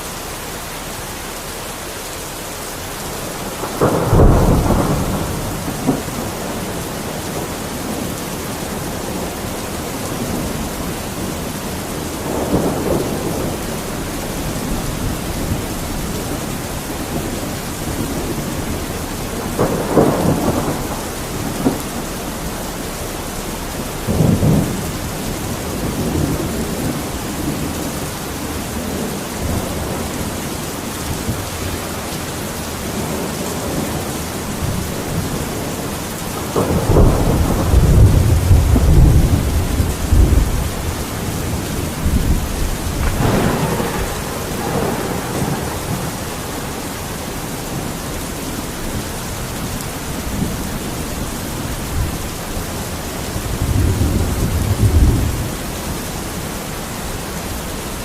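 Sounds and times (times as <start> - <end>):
steady rain falling: 0.0 - 58.0
thunder rumbling: 2.6 - 58.0.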